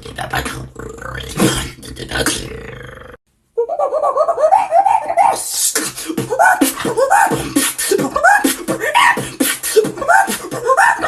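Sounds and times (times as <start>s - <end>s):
vocal beatboxing: 0.0s - 3.1s, 4.5s - 11.0s.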